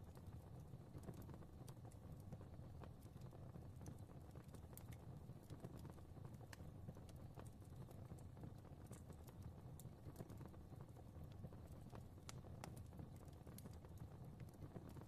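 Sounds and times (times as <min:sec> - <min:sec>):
fire crackling: 0:00.0 - 0:15.0
low rumble of flames: 0:00.0 - 0:15.0.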